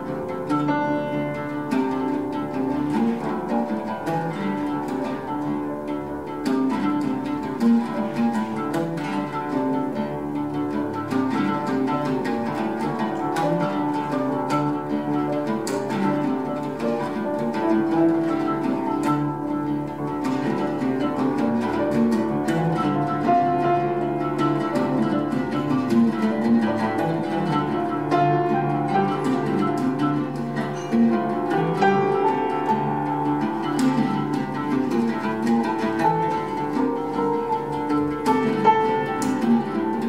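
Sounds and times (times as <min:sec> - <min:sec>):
oud plucked in rapid runs: 0:00.0 - 0:40.0
piano: 0:00.0 - 0:40.0.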